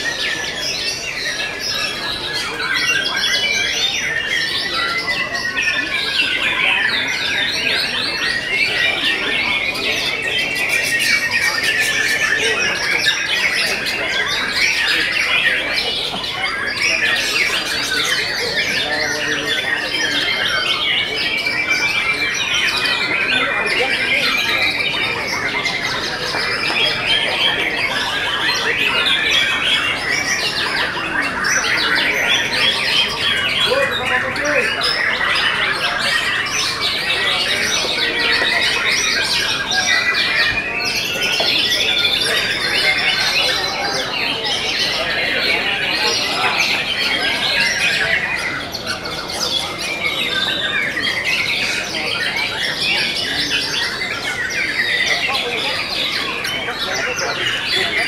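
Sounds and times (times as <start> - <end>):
chorus of songbirds: 0.0 - 58.0.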